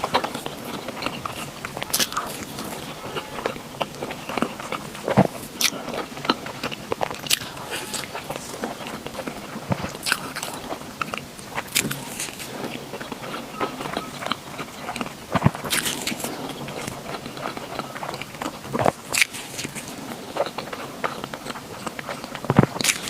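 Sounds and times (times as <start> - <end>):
biting and chewing food: 0.0 - 23.0.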